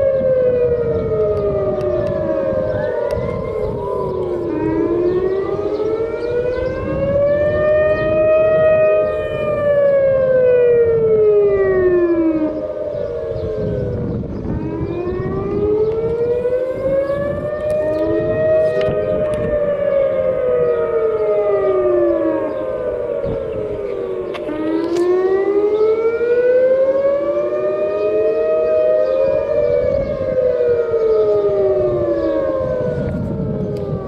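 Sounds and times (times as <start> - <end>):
steady held siren tone: 0.0 - 34.0
warning sirens wailing: 0.0 - 34.0.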